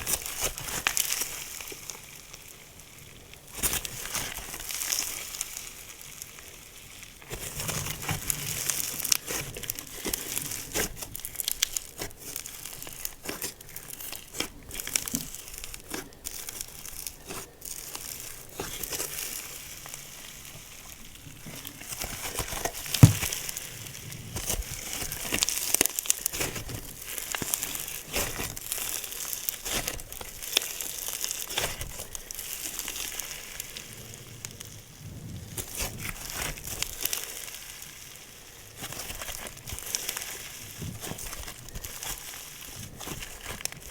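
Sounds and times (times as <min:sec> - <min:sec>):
slime crackling and popping: 0:00.0 - 0:43.9.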